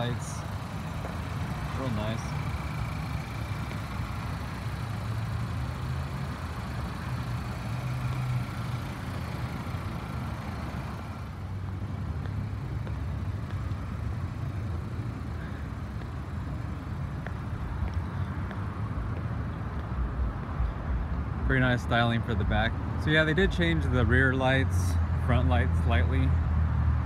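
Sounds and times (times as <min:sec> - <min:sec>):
car standing with low hum: 0:00.0 - 0:27.0.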